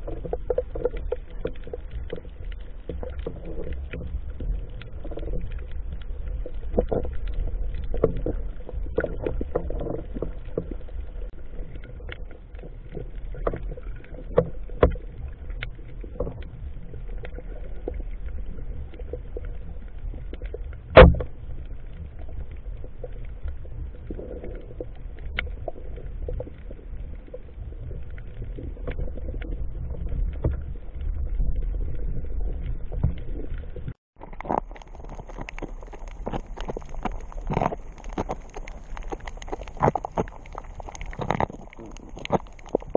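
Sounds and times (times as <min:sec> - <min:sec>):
clicks and crackles: 0:00.0 - 0:42.9
underwater low rumble: 0:00.0 - 0:42.9.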